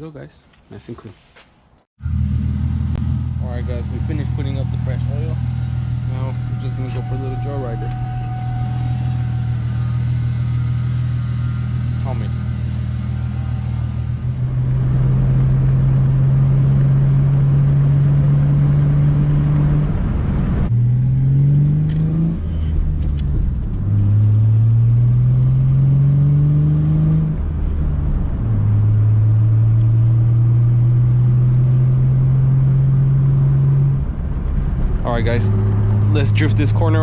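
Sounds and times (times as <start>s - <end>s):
car engine shifting gears: 2.0s - 37.0s.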